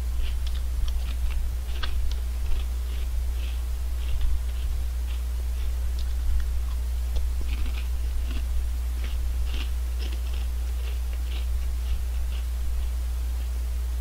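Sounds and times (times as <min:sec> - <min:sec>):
steady low hum: 0:00.0 - 0:14.0
crunchy snack chewing: 0:00.2 - 0:13.6.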